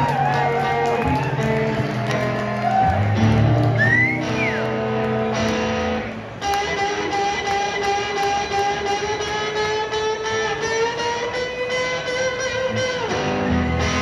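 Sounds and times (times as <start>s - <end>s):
solo blues guitar: 0.0s - 14.0s.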